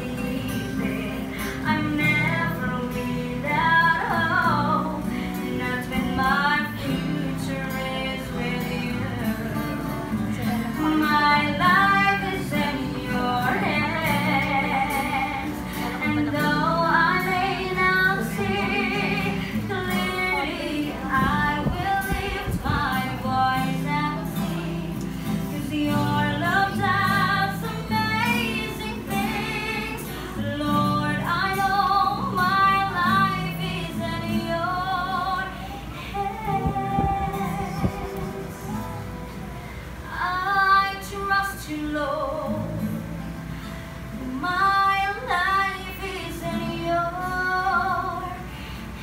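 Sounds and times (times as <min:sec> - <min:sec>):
woman singing: 0:00.0 - 0:39.2, 0:40.0 - 0:49.0
guitar accompaniment: 0:00.0 - 0:49.0.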